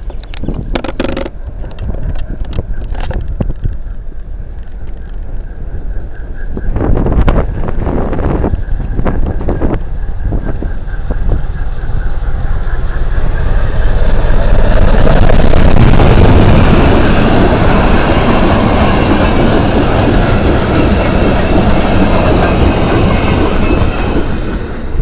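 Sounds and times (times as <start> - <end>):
steam train passing: 1.3 - 25.0.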